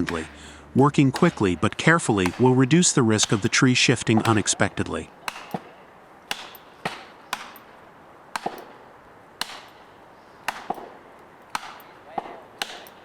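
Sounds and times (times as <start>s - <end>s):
sharp blows on wood: 0.0s - 13.0s.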